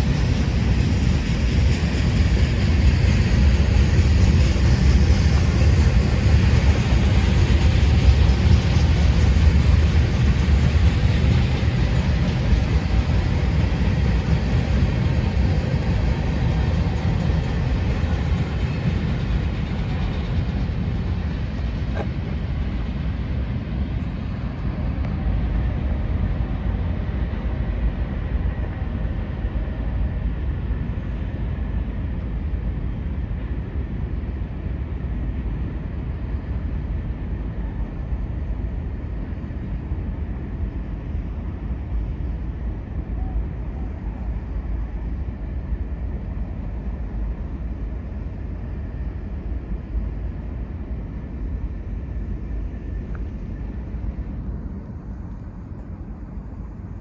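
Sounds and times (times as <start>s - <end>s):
train rolling past: 0.0s - 57.0s.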